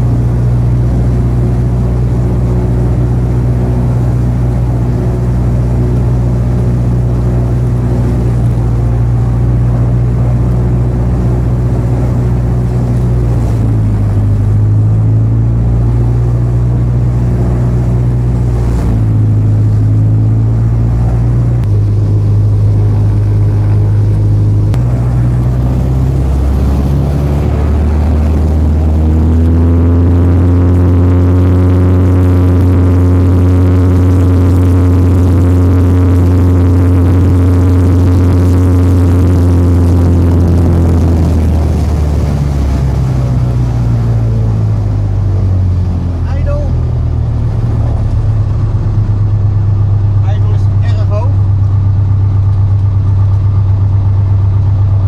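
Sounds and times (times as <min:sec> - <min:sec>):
aircraft engine running: 0:00.0 - 0:55.0.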